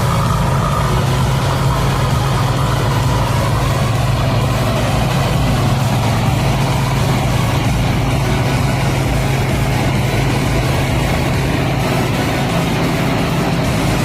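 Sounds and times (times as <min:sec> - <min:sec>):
harvester diesel engine running: 0:00.0 - 0:14.0.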